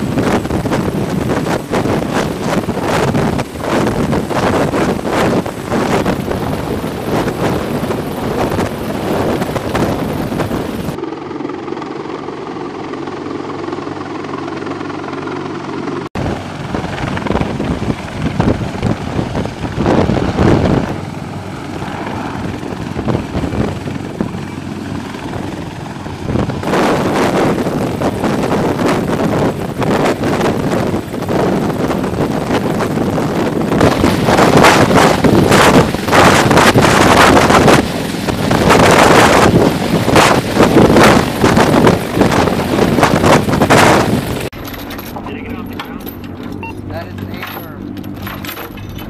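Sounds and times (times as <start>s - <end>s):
rotor wash buffeting microphone: 0.0s - 11.0s, 13.2s - 49.0s
helicopter hovering: 0.0s - 49.0s.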